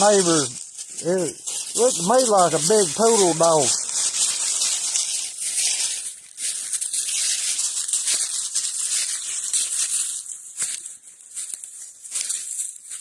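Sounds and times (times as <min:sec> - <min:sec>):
footsteps in dry leaves: 0:00.0 - 0:13.0.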